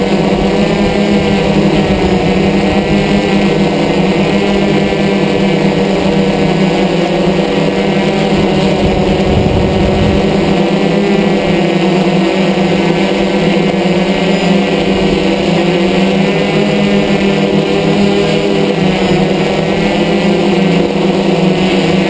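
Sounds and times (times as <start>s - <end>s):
drone motors and propellers buzzing: 0.0s - 22.0s.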